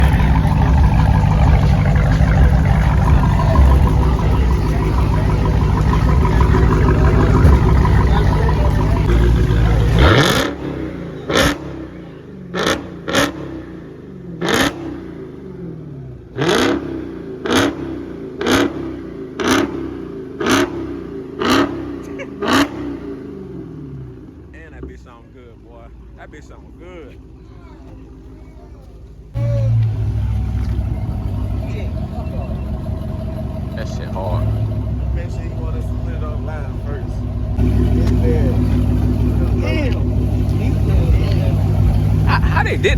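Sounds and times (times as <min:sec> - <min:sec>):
loud engine running hard: 0:00.0 - 0:15.4, 0:16.4 - 0:24.2, 0:29.4 - 0:42.9
engine revs blipped: 0:00.0 - 0:25.0, 0:29.2 - 0:42.9.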